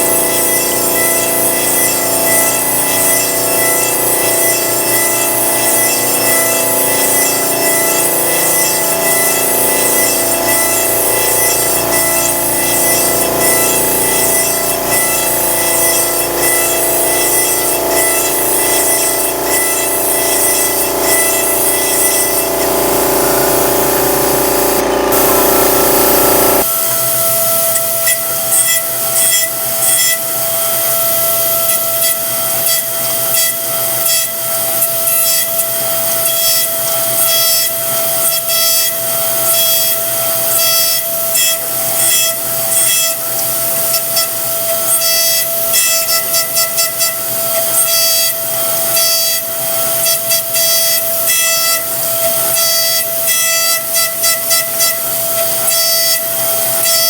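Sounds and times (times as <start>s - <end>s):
high-pitched spindle whine: 0.0s - 57.0s.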